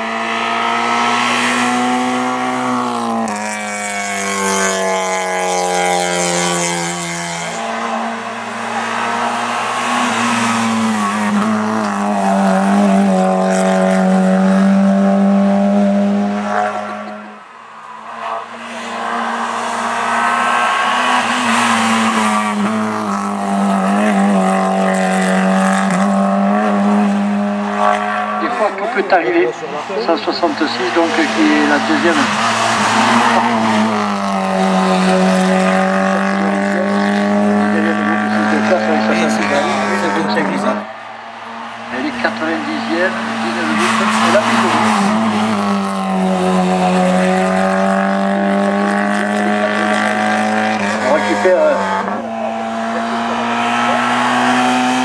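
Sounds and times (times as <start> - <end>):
race car engine revving through gears: 0.0 - 55.0.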